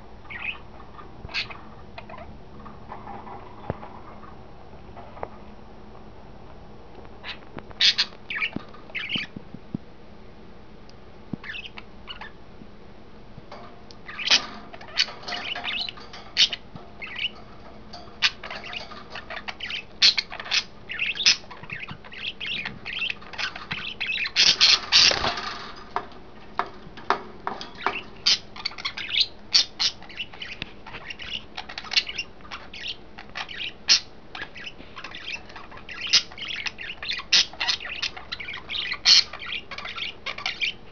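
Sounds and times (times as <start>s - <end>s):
budgerigars chirping and squawking: 0.2s - 4.4s, 7.2s - 9.4s, 11.4s - 12.4s, 13.5s - 40.9s.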